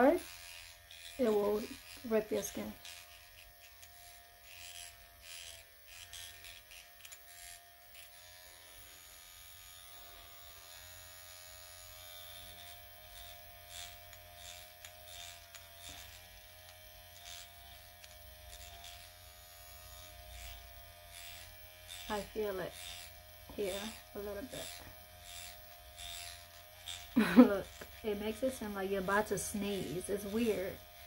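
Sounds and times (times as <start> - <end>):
electric pen buzzing: 0.0 - 31.0.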